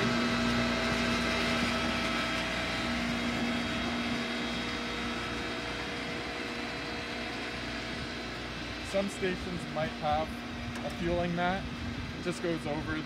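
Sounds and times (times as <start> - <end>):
electric pump motor humming: 0.0 - 13.0.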